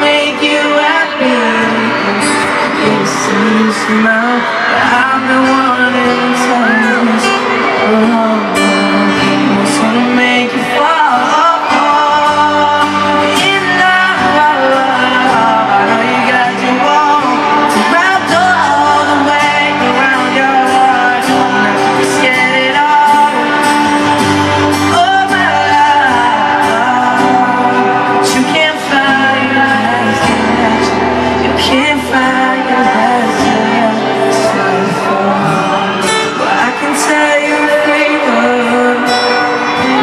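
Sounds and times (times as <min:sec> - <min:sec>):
live pop music with singing: 0:00.0 - 0:40.0.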